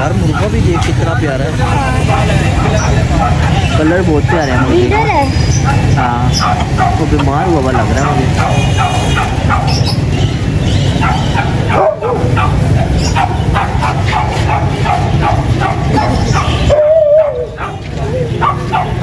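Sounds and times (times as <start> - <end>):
dog yapping: 0.3 - 7.2, 7.8 - 19.0
dog whining: 1.8 - 7.0, 7.8 - 19.0.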